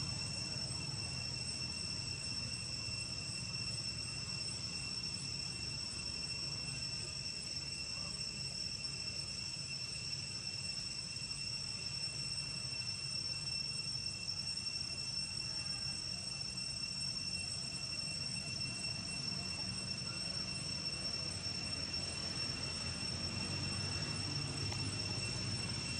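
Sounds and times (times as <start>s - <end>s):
insects droning: 0.0s - 25.9s.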